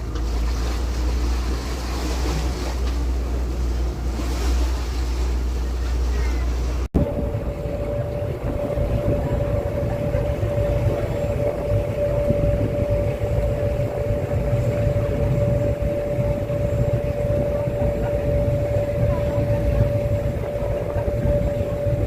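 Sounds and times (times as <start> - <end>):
constant whine: 0.0 - 22.0
vehicle motor rumbling: 0.0 - 22.0.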